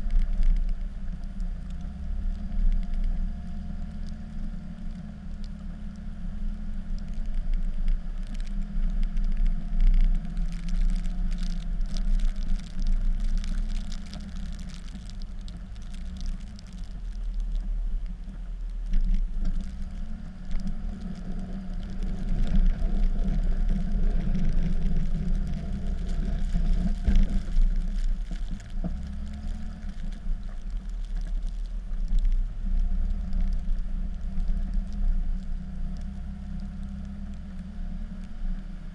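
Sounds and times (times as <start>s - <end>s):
scratchy crackling noise: 0.0s - 38.9s.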